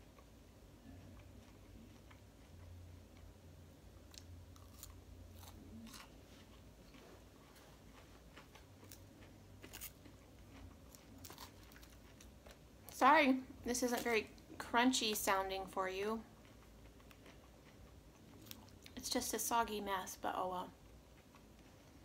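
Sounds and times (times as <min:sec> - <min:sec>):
soft chewing: 0:00.0 - 0:22.0.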